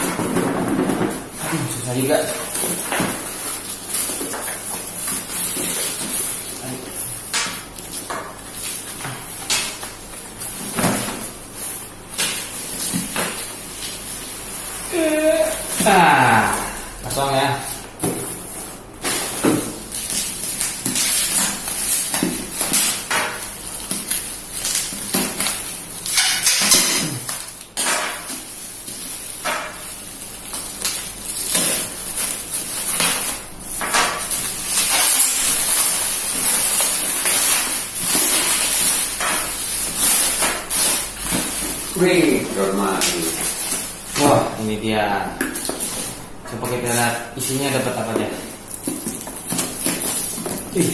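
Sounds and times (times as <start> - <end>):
plastic and cardboard rustling: 0.0 - 50.9.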